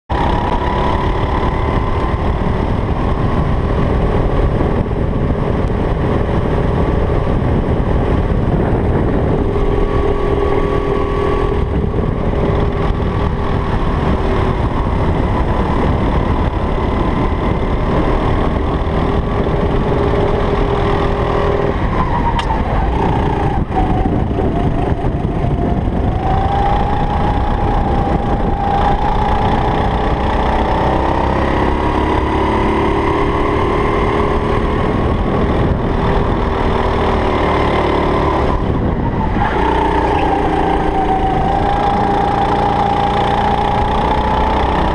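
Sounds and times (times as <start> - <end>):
kart engine running hard: 0.1 - 44.9.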